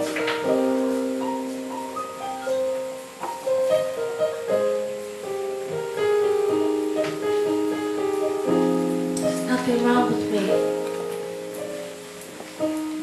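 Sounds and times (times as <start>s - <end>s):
keyboard playing slow chords: 0.0s - 13.0s.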